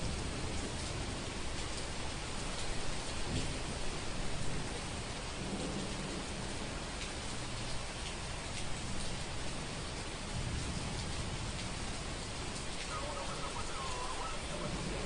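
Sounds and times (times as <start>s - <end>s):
low rumble of thunder: 0.0s - 15.0s
steady rain falling: 0.0s - 15.0s.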